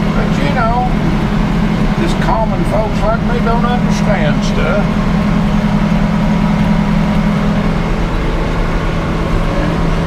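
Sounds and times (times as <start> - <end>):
sawmill engine droning: 0.0 - 10.0.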